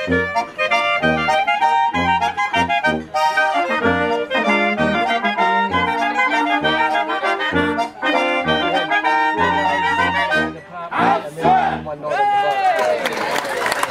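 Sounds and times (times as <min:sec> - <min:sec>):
tuba bass notes: 0:00.0 - 0:12.2
brass playing oom-pah rhythm: 0:00.0 - 0:12.7
clarinet: 0:00.0 - 0:13.0
accordion: 0:00.0 - 0:13.9.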